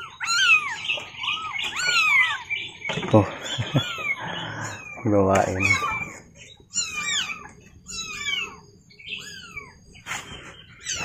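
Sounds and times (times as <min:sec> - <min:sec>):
kittens mewing: 0:00.0 - 0:11.0.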